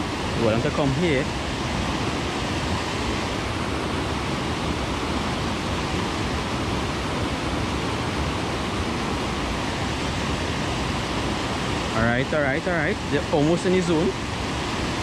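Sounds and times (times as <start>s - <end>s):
white water rushing: 0.0s - 15.0s.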